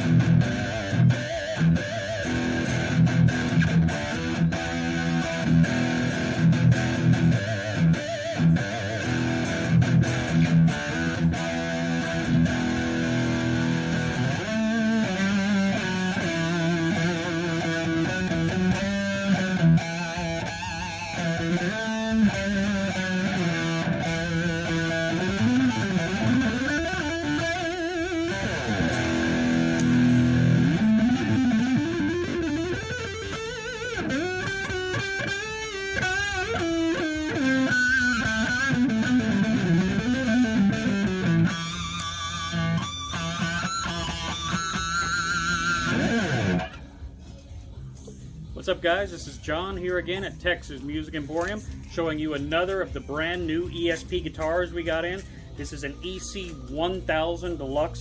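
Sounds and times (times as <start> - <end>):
electric guitar through amplifier: 0.0 - 58.0.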